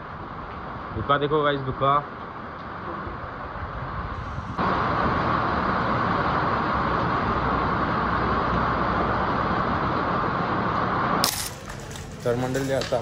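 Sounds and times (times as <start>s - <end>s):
road and wind noise of vehicle: 0.0s - 13.0s.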